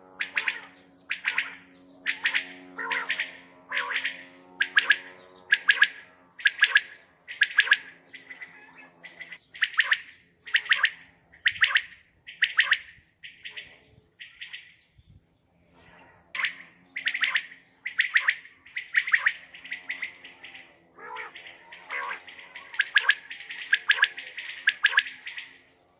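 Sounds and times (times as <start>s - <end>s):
quail calling: 0.0s - 14.8s, 15.8s - 25.6s.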